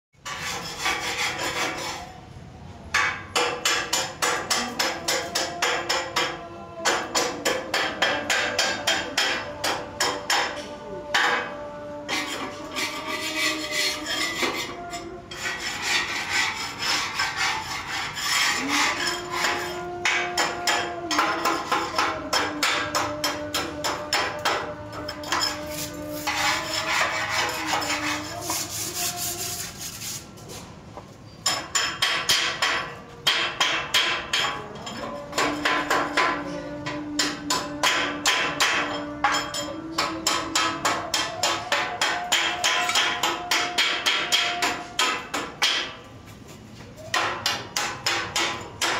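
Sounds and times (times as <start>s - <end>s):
rapid hammering on ringing metal: 2.9s - 28.4s, 31.4s - 46.0s, 47.0s - 48.9s.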